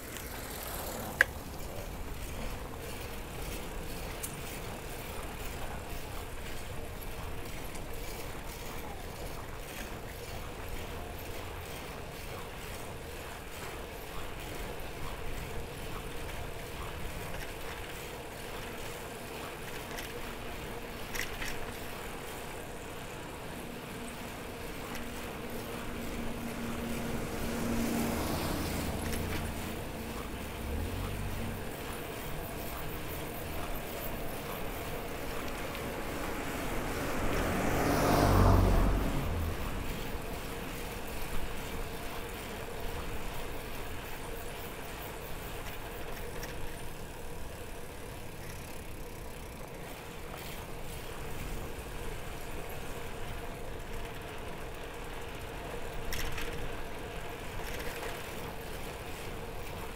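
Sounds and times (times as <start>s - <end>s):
cars passing on road: 0.0s - 59.9s.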